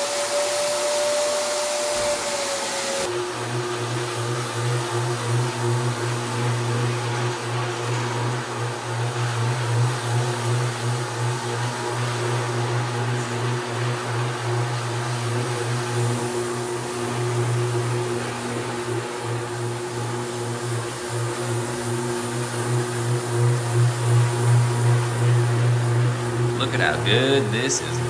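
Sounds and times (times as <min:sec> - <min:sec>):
floor grinding machine: 0:00.0 - 0:28.0.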